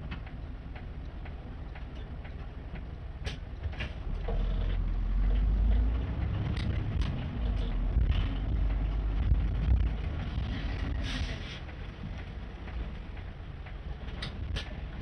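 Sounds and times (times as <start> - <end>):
bus engine: 0.0 - 15.0.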